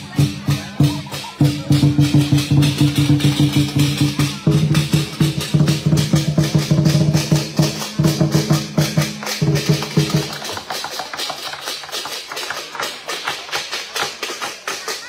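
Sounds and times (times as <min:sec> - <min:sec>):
cymbals clashing: 0:00.0 - 0:15.0
deep drum beat: 0:00.0 - 0:15.0.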